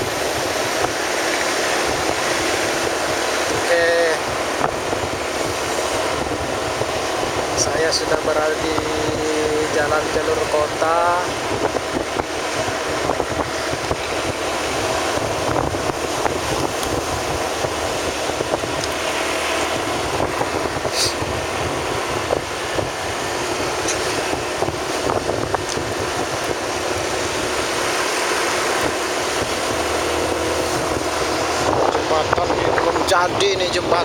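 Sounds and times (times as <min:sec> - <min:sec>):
vehicle road noise: 0:00.0 - 0:34.0
wind over microphone: 0:00.0 - 0:34.0.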